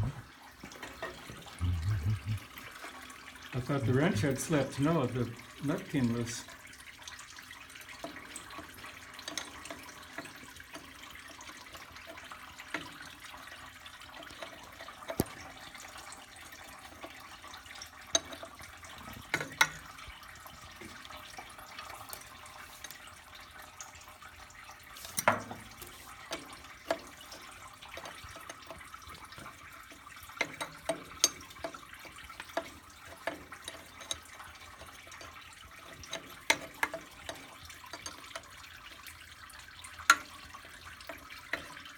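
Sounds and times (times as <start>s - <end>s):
steady trickling hiss: 0.0s - 41.9s.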